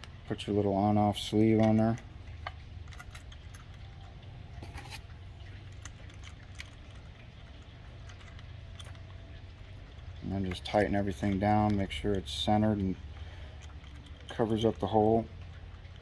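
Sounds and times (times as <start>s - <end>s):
steady low hum: 0.0s - 16.0s
small metal parts clicking: 1.0s - 16.0s.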